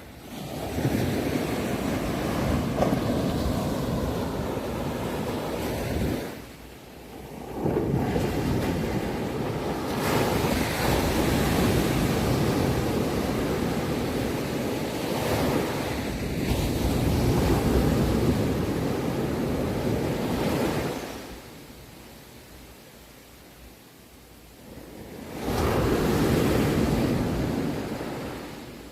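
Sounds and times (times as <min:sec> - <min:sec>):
sea waves washing onto shore: 0:00.0 - 0:21.6, 0:24.6 - 0:28.9.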